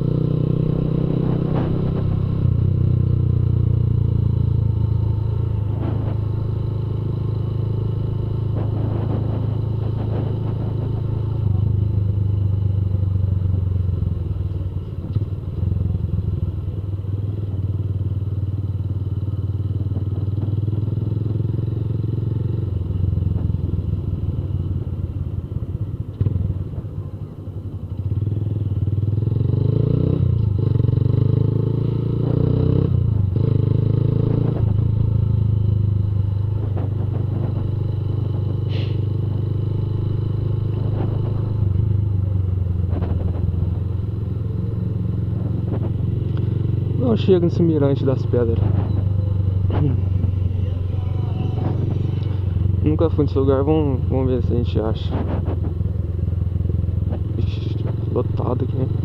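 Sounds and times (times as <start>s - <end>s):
motorcycle engine exhaust note: 0.0s - 59.0s.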